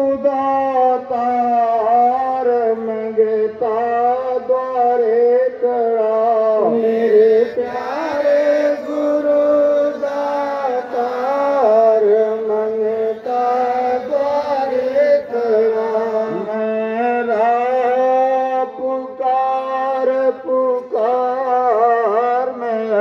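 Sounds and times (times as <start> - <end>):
person chanting prayer: 0.0 - 23.0.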